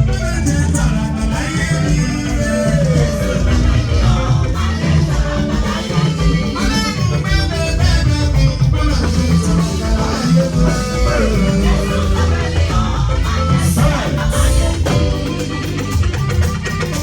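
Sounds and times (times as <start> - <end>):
band music led by guitar: 0.0 - 17.0.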